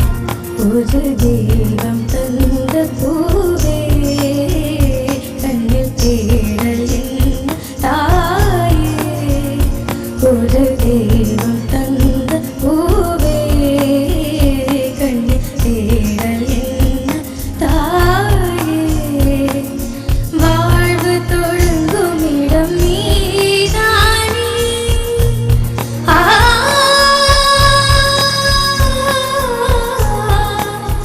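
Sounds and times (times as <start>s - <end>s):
band accompaniment with low beat: 0.0s - 31.0s
girl singing: 0.6s - 31.0s.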